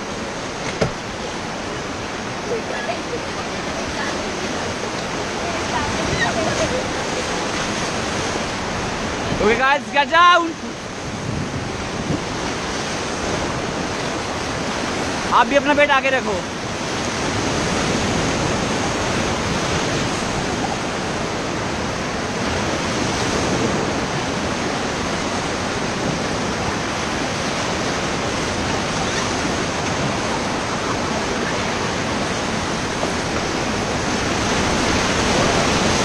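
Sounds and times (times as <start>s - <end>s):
whitewater rushing: 0.0s - 36.0s.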